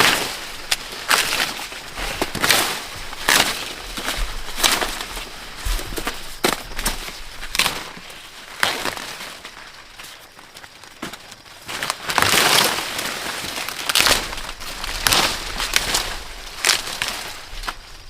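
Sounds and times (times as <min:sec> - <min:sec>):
dry corn husks rustling: 0:00.0 - 0:18.0.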